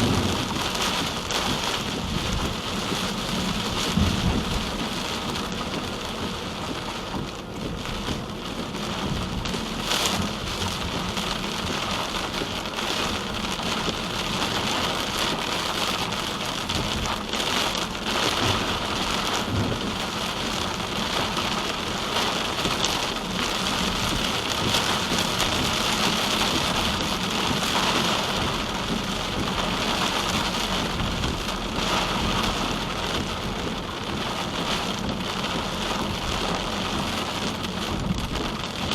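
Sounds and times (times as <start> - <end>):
rain hitting a car: 0.0 - 38.9.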